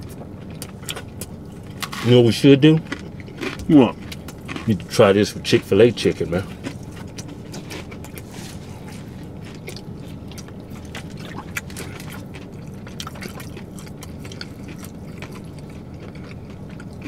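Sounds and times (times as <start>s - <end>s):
people chewing: 0.0s - 17.0s
steady low hum: 0.0s - 17.0s.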